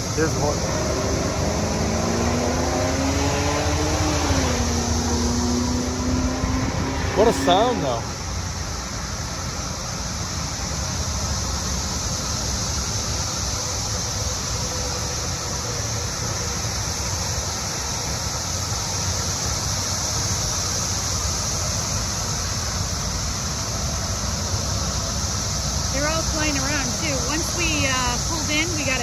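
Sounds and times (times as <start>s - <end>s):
cicadas droning: 0.0s - 29.0s
highway traffic rumble: 0.0s - 29.0s.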